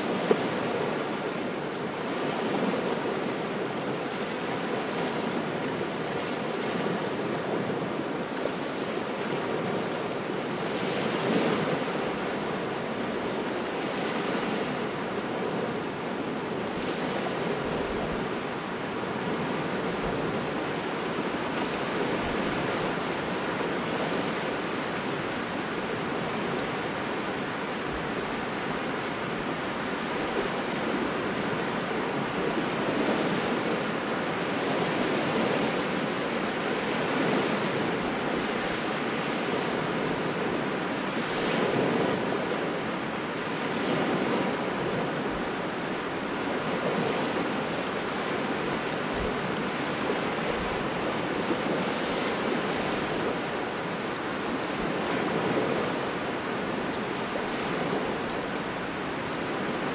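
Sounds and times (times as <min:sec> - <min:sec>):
waves washing onto shore: 0:00.0 - 0:59.9.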